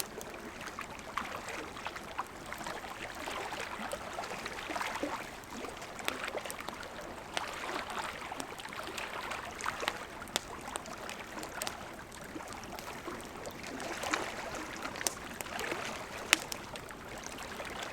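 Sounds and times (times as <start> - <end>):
campfire crackling and popping: 0.0 - 17.9.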